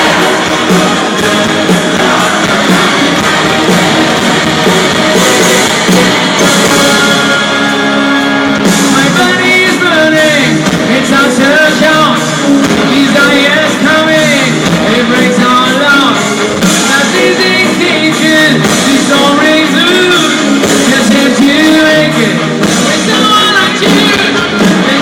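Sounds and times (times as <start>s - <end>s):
rock music with singing: 0.0s - 25.0s.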